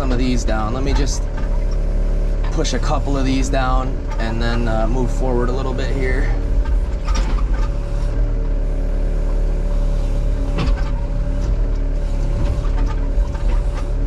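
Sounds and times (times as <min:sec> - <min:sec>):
excavator diesel engine under load: 0:00.0 - 0:14.0.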